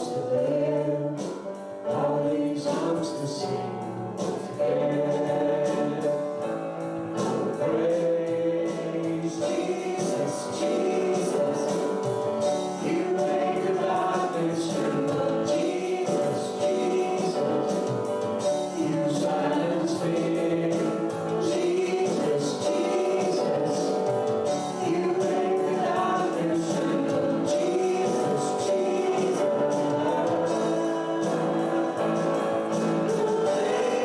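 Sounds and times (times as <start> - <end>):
band accompaniment: 0.0 - 34.0
voices singing: 0.0 - 34.0
steady percussion beat: 4.0 - 34.0.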